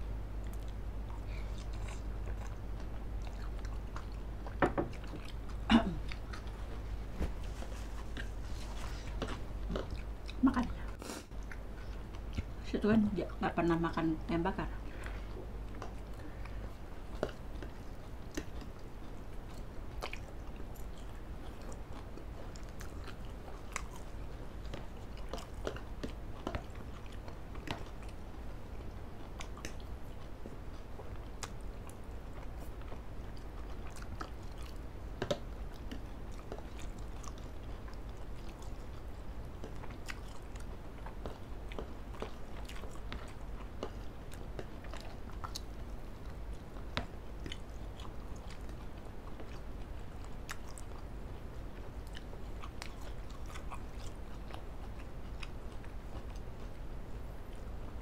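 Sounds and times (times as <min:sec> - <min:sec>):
low steady hum: 0:00.0 - 0:58.0
people chewing: 0:00.4 - 0:13.5, 0:14.8 - 0:58.0.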